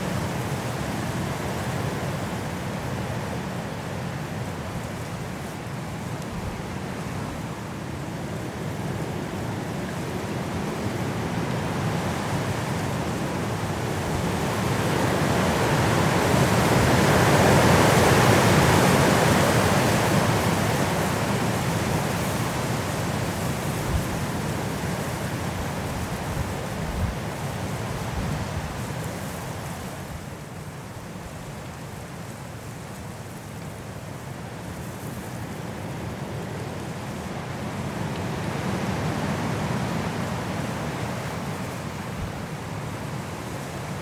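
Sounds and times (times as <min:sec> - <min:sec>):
high winds through trees: 0:00.0 - 0:44.0.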